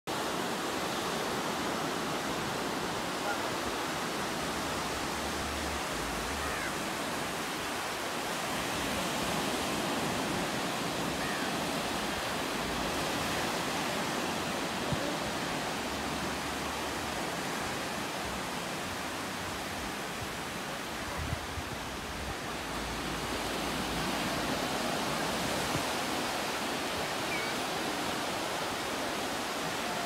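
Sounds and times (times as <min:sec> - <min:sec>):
small waves washing up a beach: 0:00.1 - 0:30.0.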